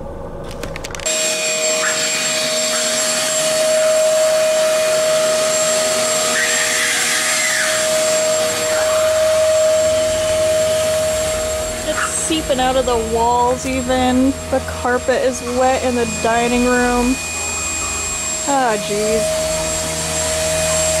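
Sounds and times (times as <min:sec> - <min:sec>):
vacuum cleaner motor running: 0:01.0 - 0:21.0.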